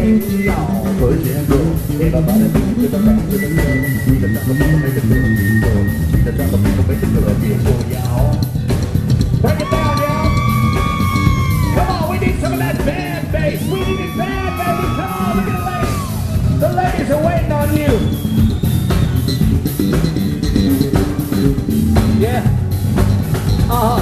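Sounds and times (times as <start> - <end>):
drum kit: 0.0 - 24.0
electric bass: 0.0 - 24.0
funk band playing: 0.0 - 24.0.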